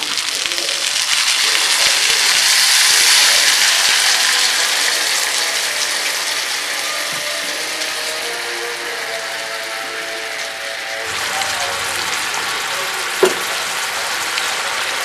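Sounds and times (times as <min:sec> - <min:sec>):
liquid sizzling in hot oil: 0:00.0 - 0:15.0.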